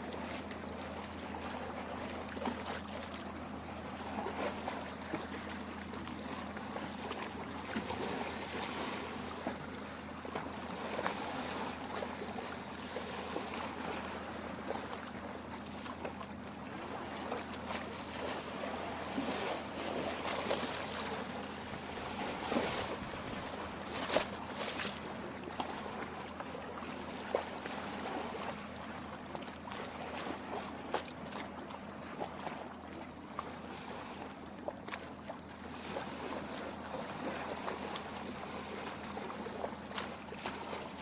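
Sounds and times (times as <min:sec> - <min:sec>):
water lapping against rocks: 0:00.0 - 0:41.0.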